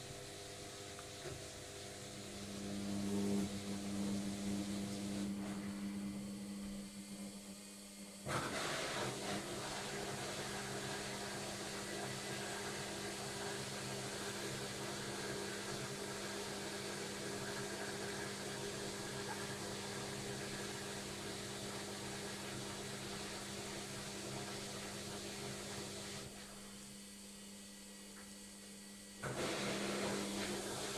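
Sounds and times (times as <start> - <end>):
washing machine running: 0.0 - 27.0, 28.9 - 30.9.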